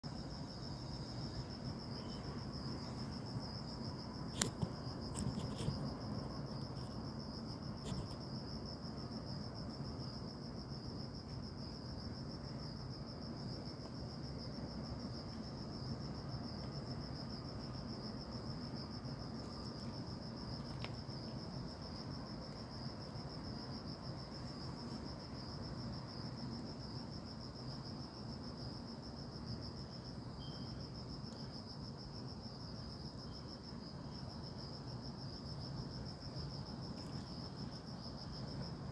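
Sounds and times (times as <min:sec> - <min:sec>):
forest insects trilling: 0:00.1 - 0:38.9.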